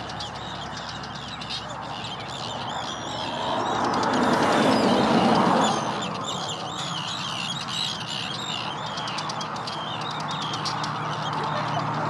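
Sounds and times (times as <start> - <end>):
many birds calling: 0.0 - 12.0.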